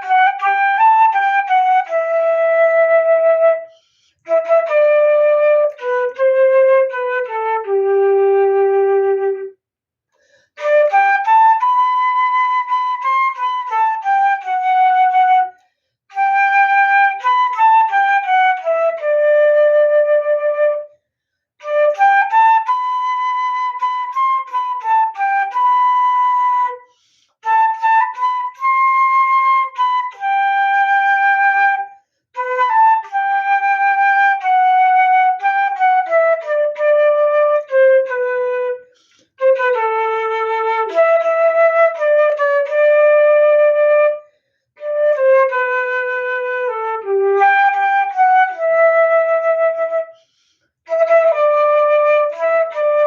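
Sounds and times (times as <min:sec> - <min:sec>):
flute playing slow melody: 0:00.0 - 0:09.6, 0:10.6 - 0:21.0, 0:21.6 - 0:53.0.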